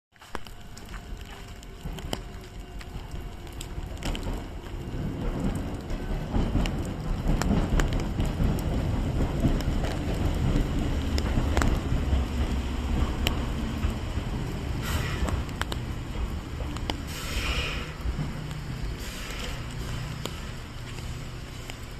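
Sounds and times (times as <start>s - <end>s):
train rumbling on track: 0.2s - 21.9s.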